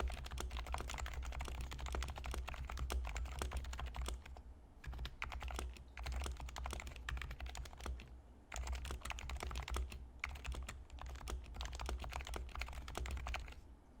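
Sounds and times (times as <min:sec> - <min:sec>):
soft keyboard keystrokes: 0:00.0 - 0:13.7.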